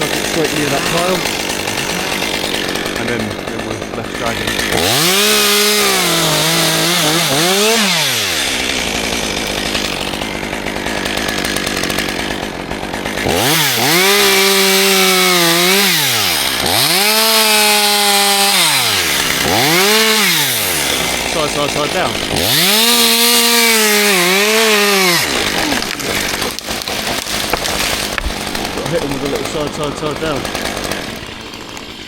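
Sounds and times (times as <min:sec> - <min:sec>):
chainsaw cutting wood: 0:00.0 - 0:32.0
chainsaw revving: 0:00.0 - 0:32.0.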